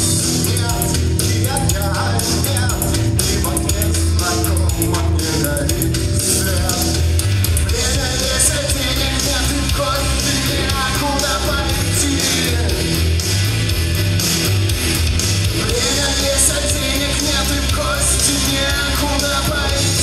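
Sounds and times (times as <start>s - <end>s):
man singing: 0.0s - 13.1s, 15.6s - 20.0s
drum beat: 0.0s - 20.0s
electric guitar: 0.0s - 20.0s.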